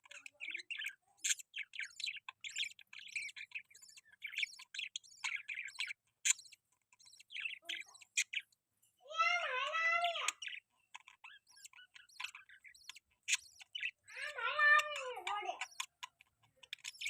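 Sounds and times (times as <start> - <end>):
budgerigars chattering: 0.0 - 17.0.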